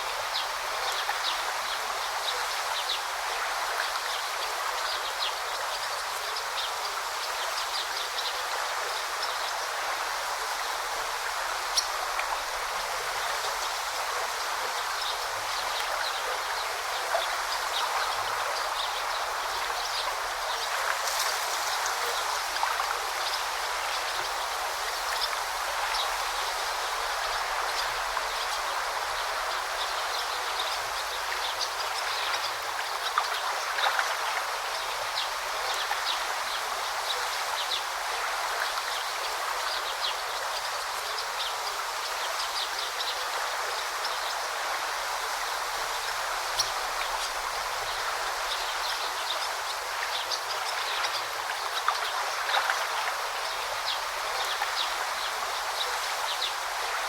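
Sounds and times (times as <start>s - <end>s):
brook water babbling over stones: 0.0s - 57.0s.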